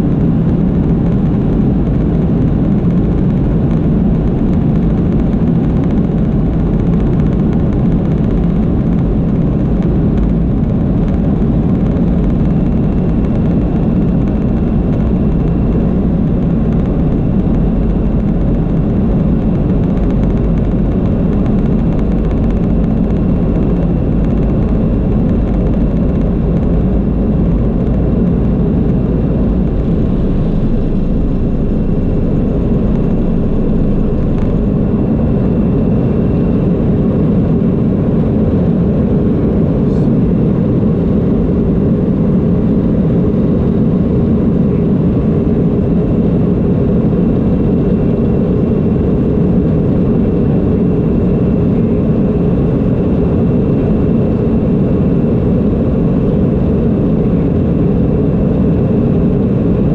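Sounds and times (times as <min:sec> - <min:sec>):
faint high whine: 0:00.0 - 0:59.9
jet engines roaring in cabin: 0:00.0 - 0:59.9.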